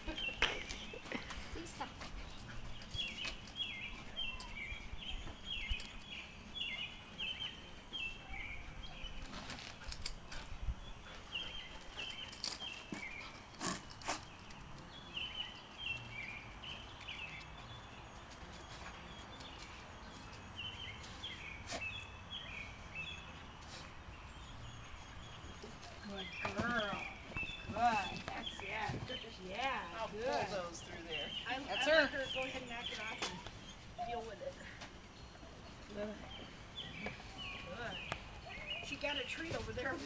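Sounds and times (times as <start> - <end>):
songbird chirping: 0.0 - 40.0.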